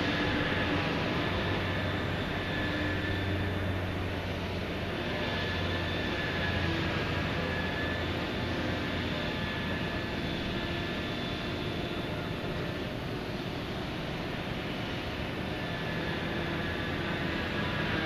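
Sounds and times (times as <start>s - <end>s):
heavy machinery engine hum: 0.0s - 18.0s.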